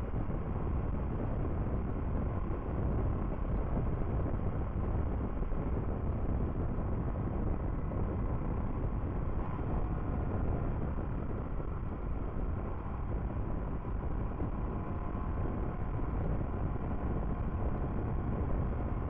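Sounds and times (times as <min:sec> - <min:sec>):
wind rush over microphone: 0:00.0 - 0:19.0.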